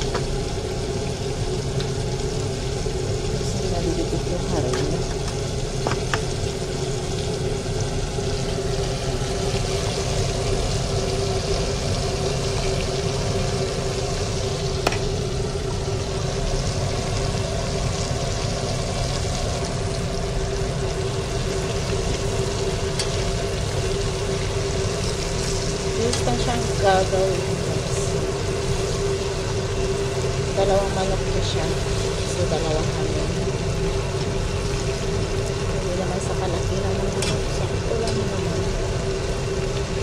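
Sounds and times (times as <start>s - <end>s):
constant hum: 0.0s - 40.0s
oil sizzling: 0.0s - 40.0s.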